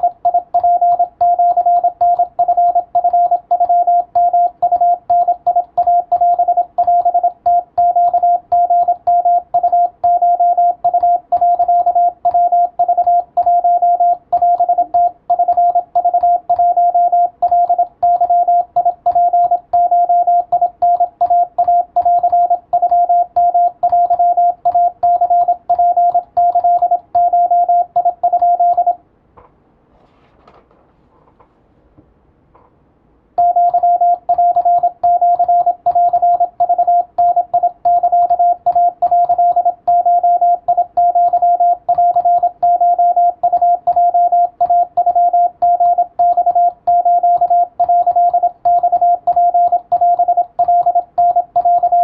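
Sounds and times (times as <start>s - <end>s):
morse code tone: 0.0s - 29.0s, 33.4s - 52.0s.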